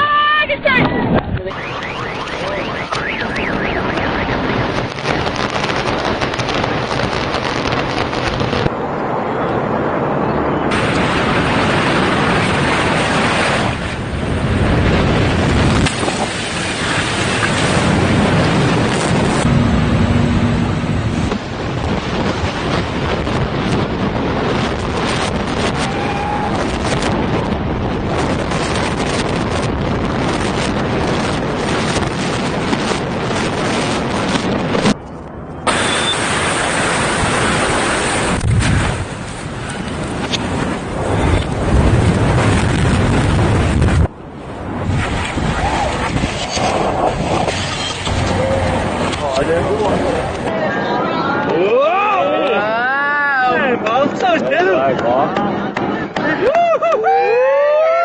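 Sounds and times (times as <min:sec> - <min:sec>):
wind buffeting microphone: 0:00.0 - 0:52.7
concrete buildings collapsing: 0:02.2 - 0:50.6.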